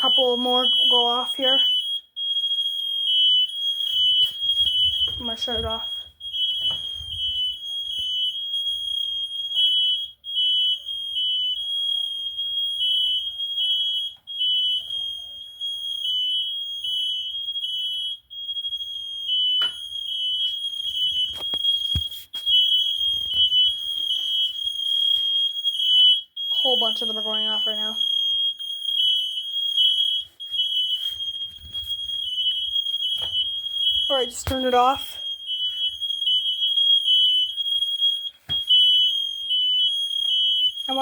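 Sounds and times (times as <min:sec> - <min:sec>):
smoke alarms beeping: 0:00.0 - 0:41.0.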